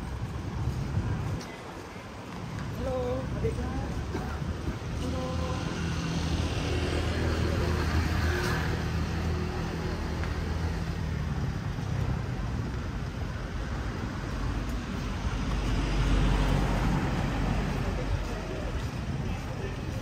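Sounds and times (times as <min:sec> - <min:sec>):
outdoor traffic noise: 0:00.0 - 0:20.0.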